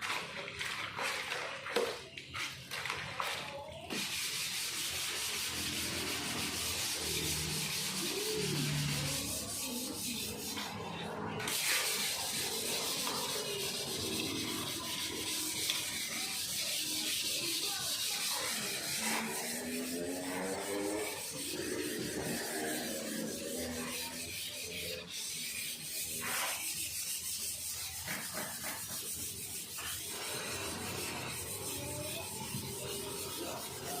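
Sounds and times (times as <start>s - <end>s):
sandpaper scraping body filler: 3.9s - 34.0s.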